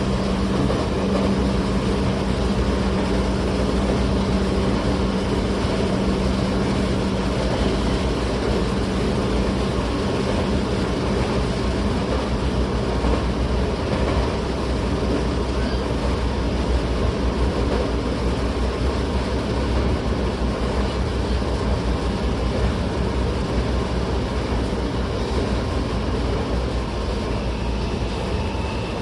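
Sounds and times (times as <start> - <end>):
train wheel and rail rumble: 0.0 - 29.0.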